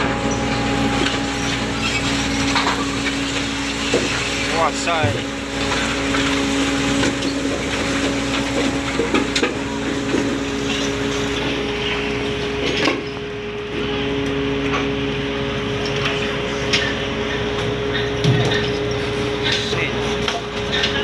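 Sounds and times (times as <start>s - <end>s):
ship machinery hum: 0.0s - 21.0s.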